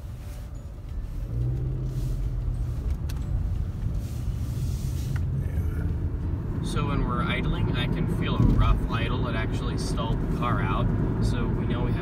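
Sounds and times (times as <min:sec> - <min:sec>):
car engine humming: 0:00.0 - 0:12.0
road noise: 0:00.0 - 0:12.0.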